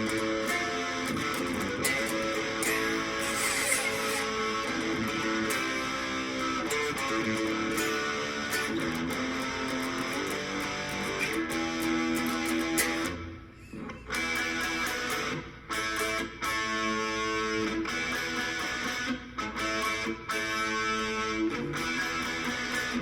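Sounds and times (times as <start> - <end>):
overdriven electric guitar riffs: 0.0 - 23.0.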